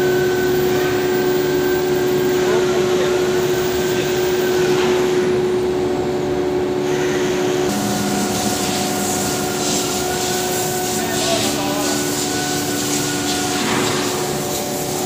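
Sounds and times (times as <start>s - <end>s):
router droning with high whine: 0.0s - 15.0s.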